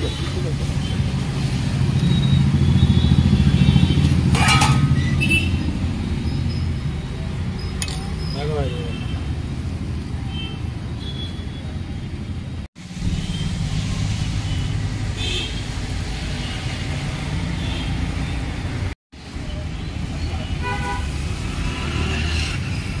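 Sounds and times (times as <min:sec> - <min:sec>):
rumble of passing vehicles: 0:00.0 - 0:23.0.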